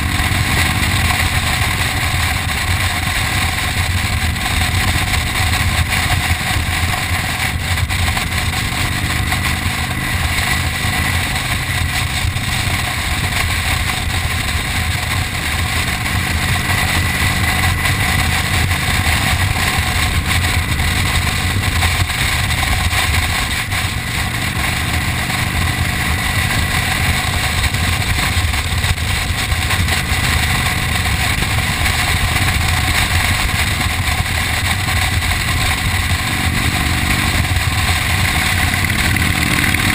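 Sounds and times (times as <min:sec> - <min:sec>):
motorcycle engine rumble: 0:00.0 - 0:39.9
wind rushing over microphone: 0:00.0 - 0:39.9.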